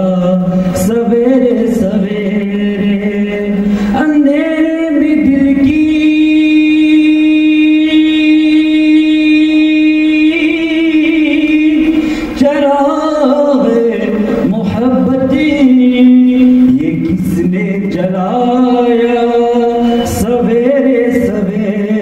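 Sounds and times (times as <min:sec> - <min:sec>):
man singing devotional verse: 0:00.0 - 0:22.0.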